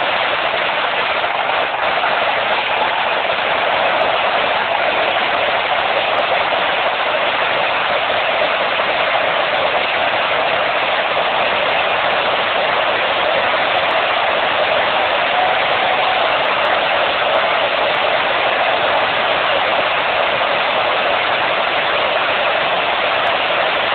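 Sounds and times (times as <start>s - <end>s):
fireworks barrage roaring: 0.0s - 23.9s.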